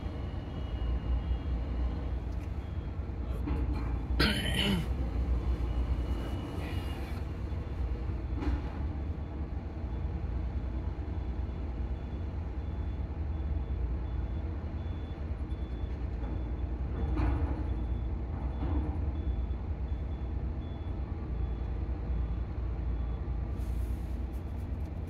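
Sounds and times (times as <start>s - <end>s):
heavy engines rumbling: 0.0s - 25.0s.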